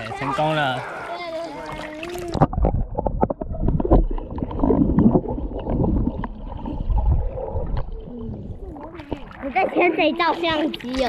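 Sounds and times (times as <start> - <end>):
underwater water sloshing: 0.0 - 11.0.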